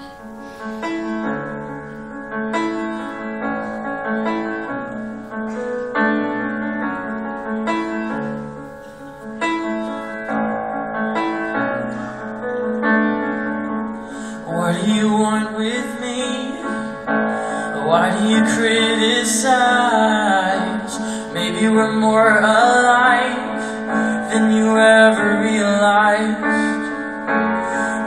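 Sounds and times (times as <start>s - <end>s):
slow piano ballad: 0.0s - 28.0s.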